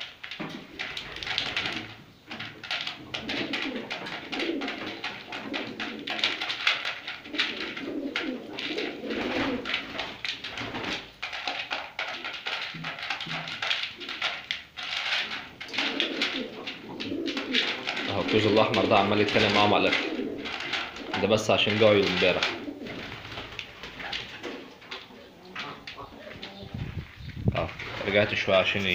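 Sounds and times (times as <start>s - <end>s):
beaks clicking on grain: 0.0s - 28.9s
pigeons cooing: 0.0s - 28.9s.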